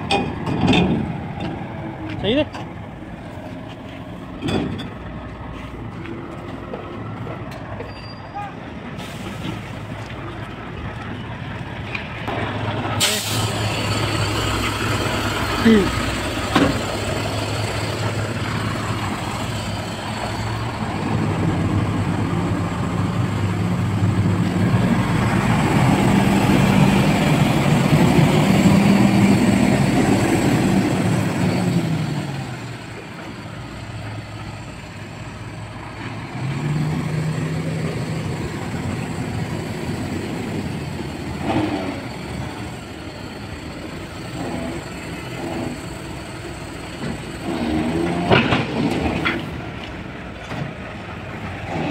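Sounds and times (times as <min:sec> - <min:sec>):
garbage truck diesel engine: 0:00.0 - 0:51.9.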